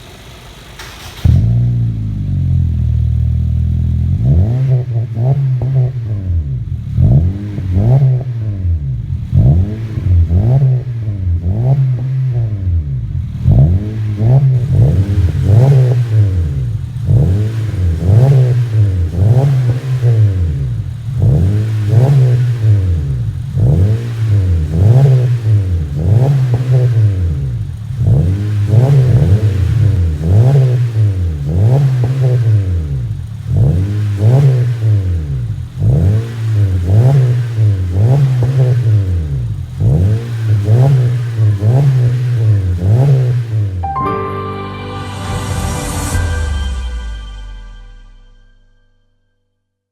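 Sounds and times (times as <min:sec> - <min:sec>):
car engine revving: 0:00.0 - 0:43.8.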